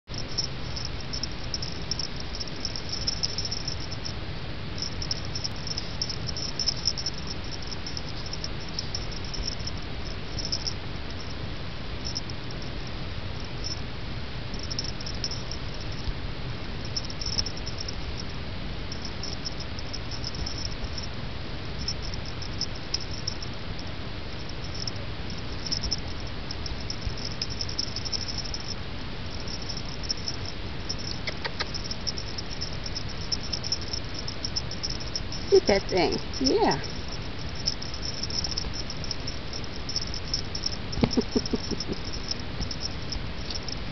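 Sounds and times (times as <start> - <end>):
insects chirping in trills: 0.0 - 43.9
steady low hum: 0.0 - 43.9.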